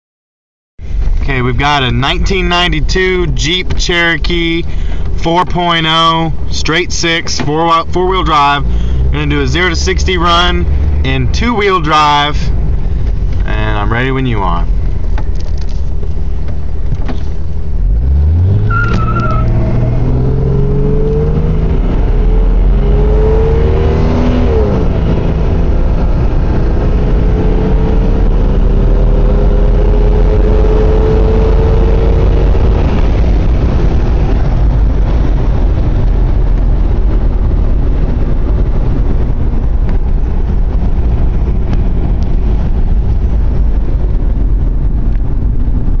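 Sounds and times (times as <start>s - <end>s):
car engine accelerating: 0.8s - 46.0s
road and wind noise: 0.8s - 46.0s.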